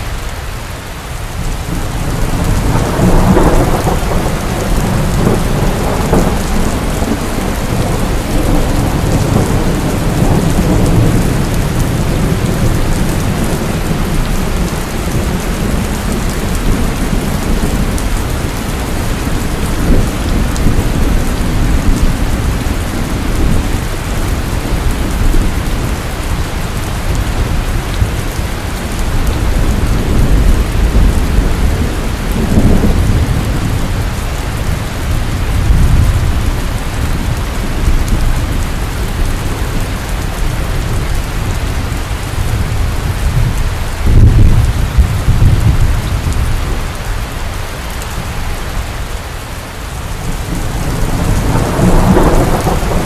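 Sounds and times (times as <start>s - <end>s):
heavy rain: 0.0s - 53.0s
thunder rumbling: 1.4s - 47.2s, 47.9s - 53.0s.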